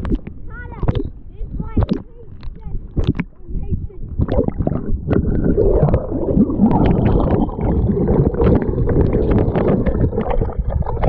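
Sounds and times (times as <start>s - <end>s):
water sloshing and bubbling: 0.0s - 11.0s.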